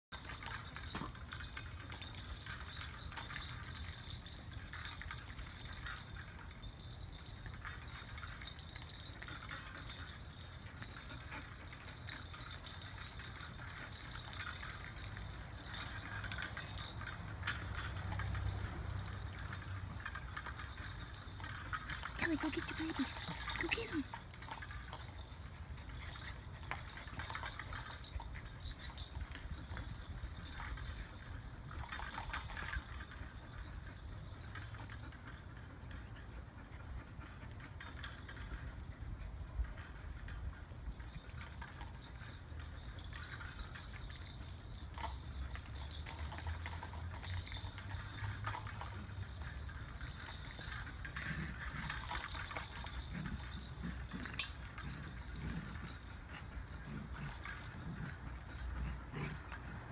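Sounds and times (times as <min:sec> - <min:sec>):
toys rattling and rustling: 0:00.0 - 0:59.9.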